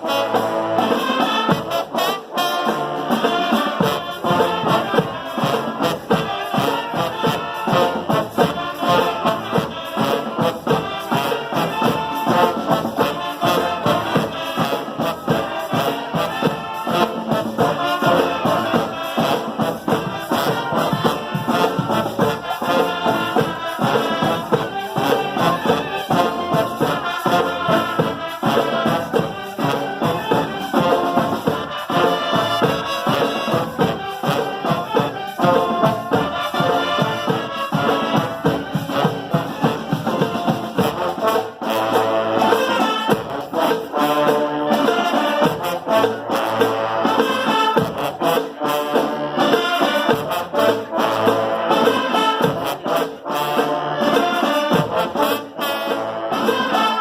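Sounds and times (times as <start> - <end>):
trombones and trumpets playing: 0.0 - 57.0.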